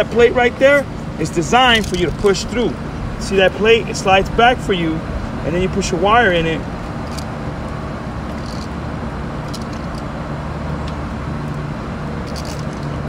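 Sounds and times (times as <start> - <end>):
hvac equipment humming: 0.0 - 13.0.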